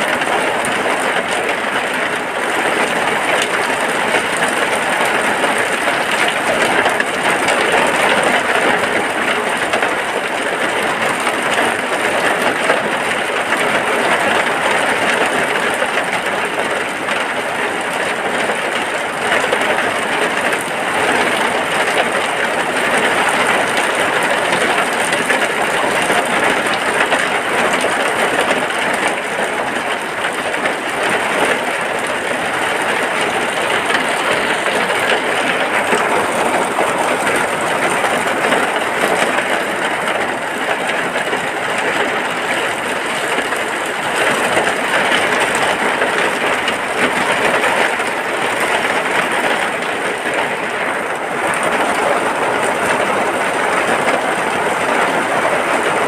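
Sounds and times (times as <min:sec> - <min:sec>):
rain falling on hut: 0:00.0 - 0:56.0.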